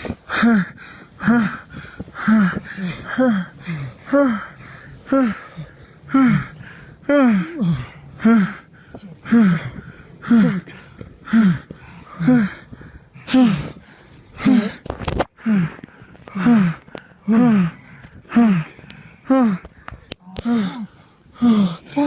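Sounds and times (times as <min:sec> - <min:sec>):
person breathing hard with groans: 0:00.0 - 0:22.0.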